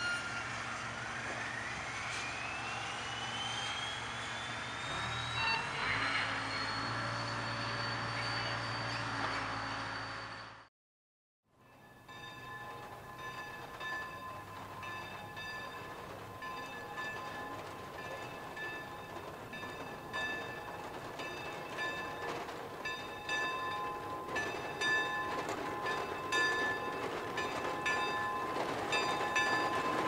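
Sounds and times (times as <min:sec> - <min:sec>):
steam locomotive moving slowly: 0:00.0 - 0:10.7, 0:11.5 - 0:30.0.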